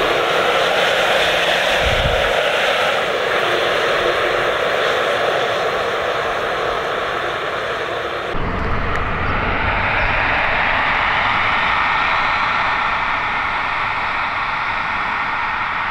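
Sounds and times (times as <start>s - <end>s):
model jet engines roaring: 0.0s - 15.9s.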